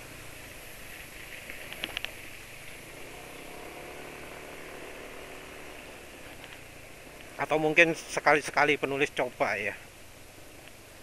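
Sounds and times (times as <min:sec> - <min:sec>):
road and wind noise: 0:00.0 - 0:11.0
scooter engine hum: 0:00.0 - 0:11.0.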